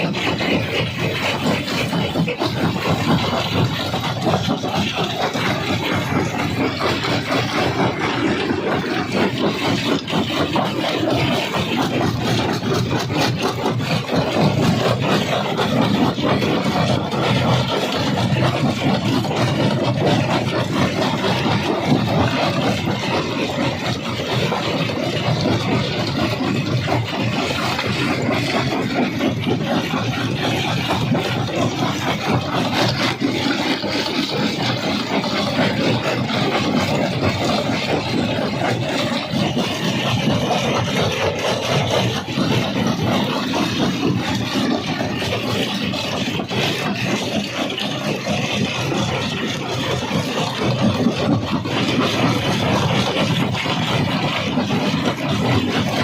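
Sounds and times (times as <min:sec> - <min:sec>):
crusher machine drone: 0:00.0 - 0:56.0.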